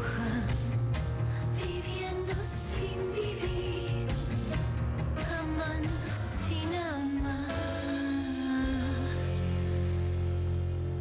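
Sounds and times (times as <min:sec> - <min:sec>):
instrumental ballad music: 0:00.0 - 0:11.0.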